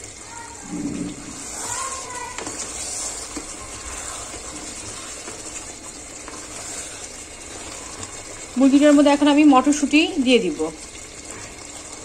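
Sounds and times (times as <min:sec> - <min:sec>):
curry sizzling and bubbling in pot: 0:00.0 - 0:12.0.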